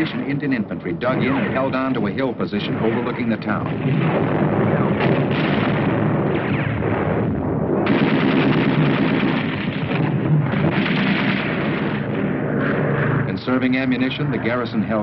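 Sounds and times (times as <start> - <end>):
shell explosions: 0.0 - 15.0
rapid gunfire: 1.1 - 13.6.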